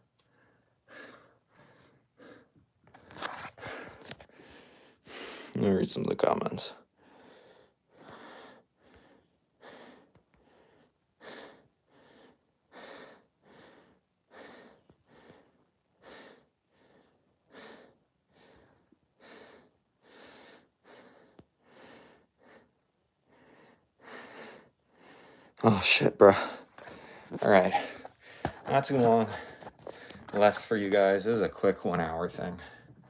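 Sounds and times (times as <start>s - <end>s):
man breathing quickly: 0.1s - 5.6s, 6.9s - 25.6s, 26.2s - 30.3s.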